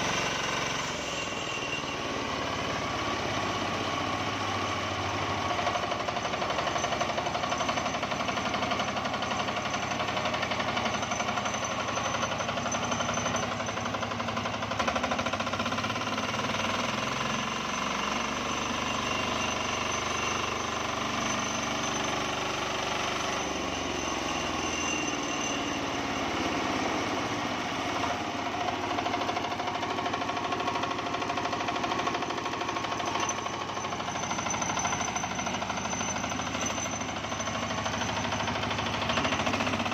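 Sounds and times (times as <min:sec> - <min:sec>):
diesel engine knocking: 0:02.2 - 0:23.4, 0:26.7 - 0:39.9.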